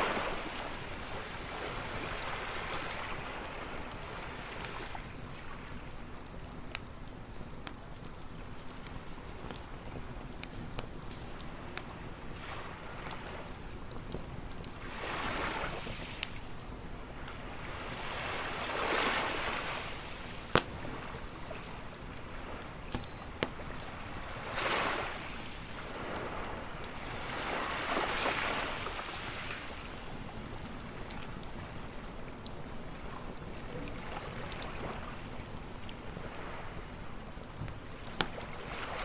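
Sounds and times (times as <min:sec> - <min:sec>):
campfire popping: 0:00.0 - 0:39.0
ocean waves washing onto beach: 0:00.0 - 0:39.0.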